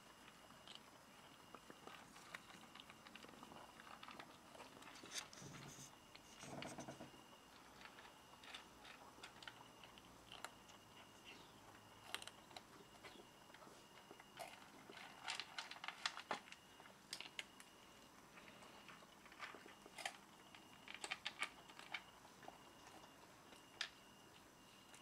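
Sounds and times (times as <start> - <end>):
cats crunching dry kibble: 0.0 - 25.0.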